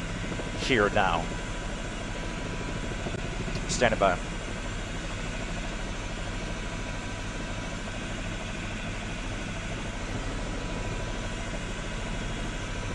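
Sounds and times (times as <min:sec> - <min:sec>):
faint steady whine: 0:00.0 - 0:12.9
helicopter engine and rotor drone: 0:00.0 - 0:12.9.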